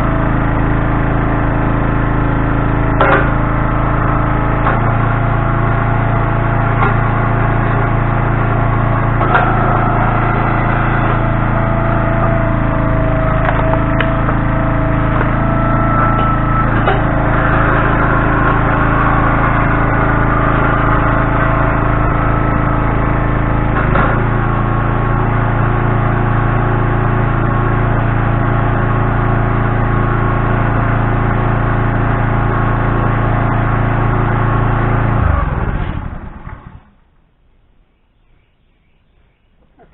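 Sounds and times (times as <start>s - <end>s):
engine running steadily: 0.0s - 37.3s.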